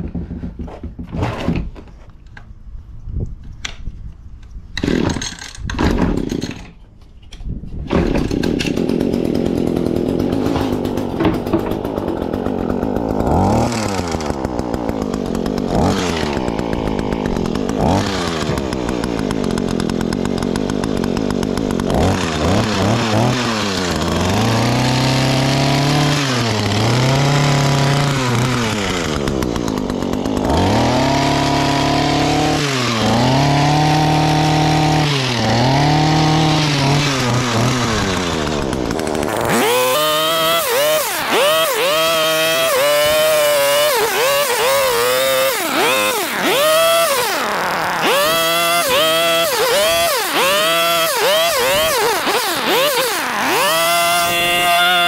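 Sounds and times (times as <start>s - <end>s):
hedge trimmer engine revving: 4.8s - 6.7s, 7.9s - 55.0s.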